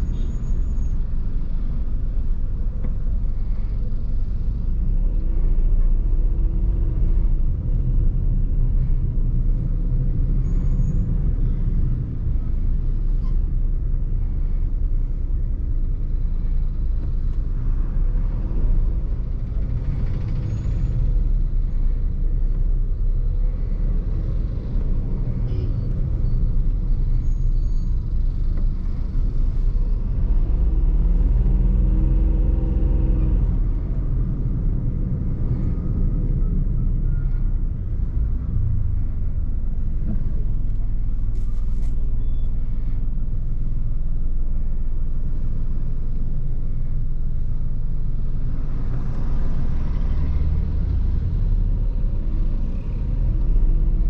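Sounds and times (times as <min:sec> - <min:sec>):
car engine driving: 0:00.0 - 0:54.0
road noise: 0:00.0 - 0:54.0.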